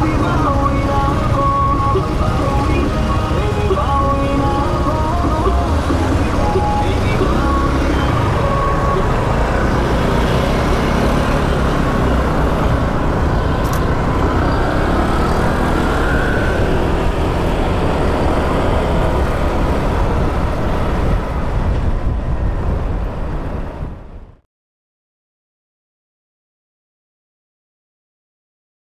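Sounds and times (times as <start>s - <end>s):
scooter engine running: 0.0s - 23.4s
wind rushing over microphone: 0.0s - 24.4s.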